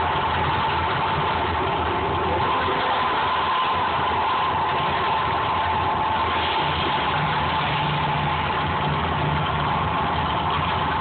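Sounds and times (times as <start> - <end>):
loud rumble and roar: 0.0 - 11.0
low hum: 0.0 - 11.0.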